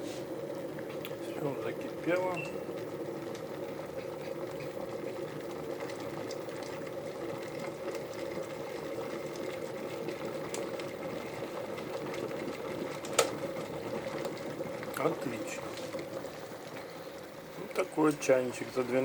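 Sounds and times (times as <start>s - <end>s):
electric kettle heating water: 0.0s - 19.0s.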